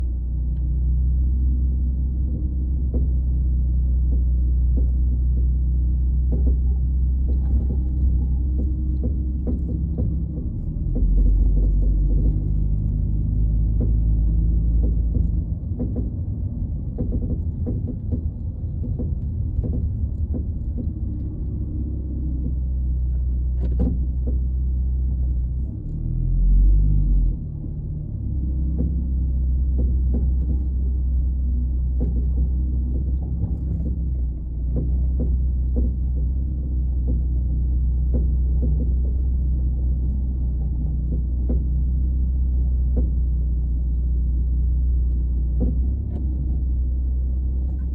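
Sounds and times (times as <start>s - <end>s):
car driving low rumble: 0.0s - 47.9s
short clunks: 4.0s - 47.9s.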